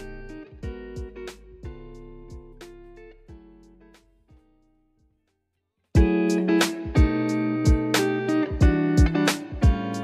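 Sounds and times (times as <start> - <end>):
background music with guitar and drums: 0.0 - 4.1, 6.0 - 10.0.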